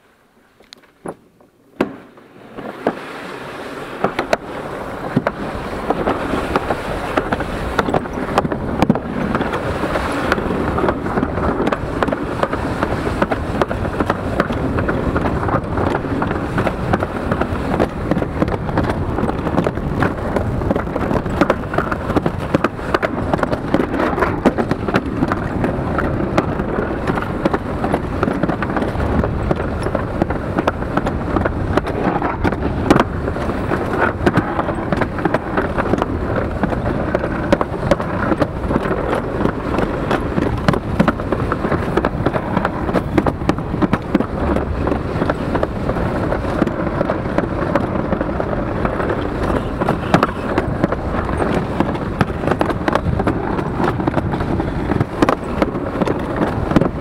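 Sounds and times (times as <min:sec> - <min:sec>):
toboggan sled rumbling and rattling: 0:00.9 - 0:57.0.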